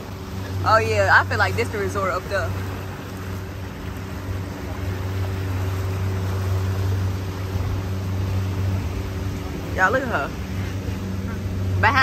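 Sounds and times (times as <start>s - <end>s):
boat engine hum: 0.0s - 12.0s
rush of wind and water: 0.0s - 12.0s.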